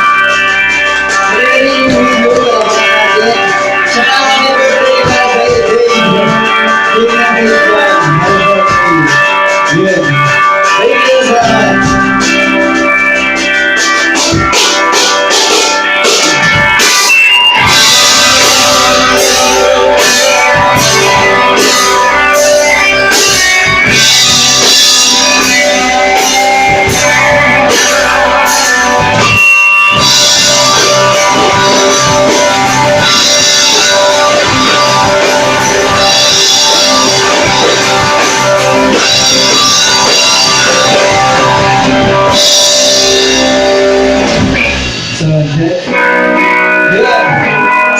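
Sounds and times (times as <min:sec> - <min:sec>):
drum kit: 0:00.0 - 0:47.9
guitars: 0:00.0 - 0:47.9.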